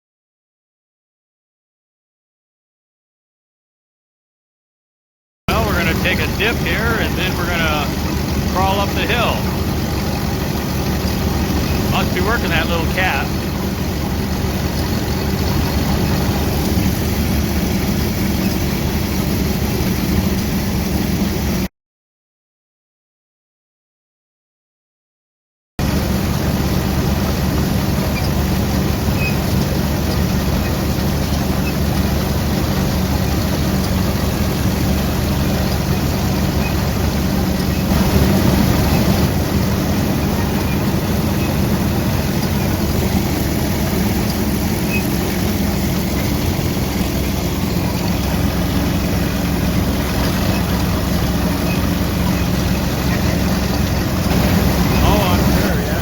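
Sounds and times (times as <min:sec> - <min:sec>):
harvesting machine engine running: 0:05.5 - 0:21.6, 0:25.8 - 0:56.0.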